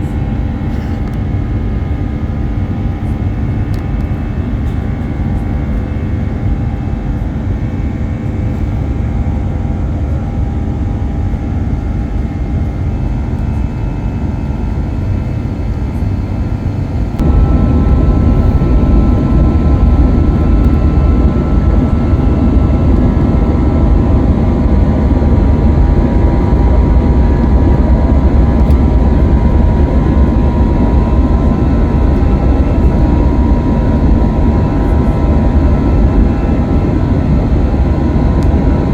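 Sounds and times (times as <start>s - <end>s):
jet engine rumble in cabin: 0.0s - 38.9s
jet engine whine: 0.0s - 38.9s.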